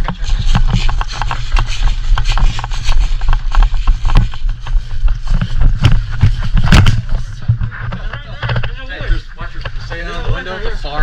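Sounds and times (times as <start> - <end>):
running footfalls: 0.0 - 9.2
wind buffeting on microphone: 0.0 - 11.0.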